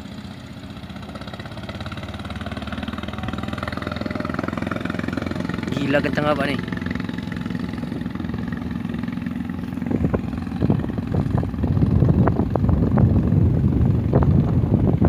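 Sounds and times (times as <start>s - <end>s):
small boat engine running: 0.0s - 15.0s
wind buffeting microphone: 0.7s - 15.0s.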